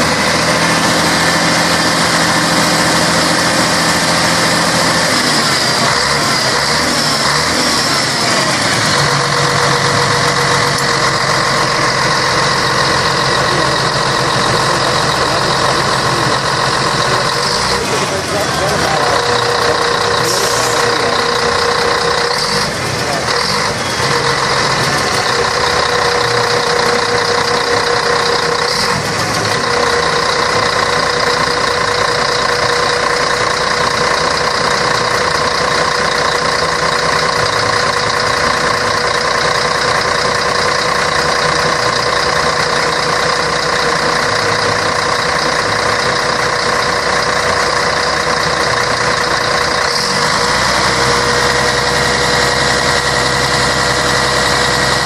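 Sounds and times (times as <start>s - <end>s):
bus diesel engine running: 0.0s - 55.0s
constant whine: 0.0s - 55.0s.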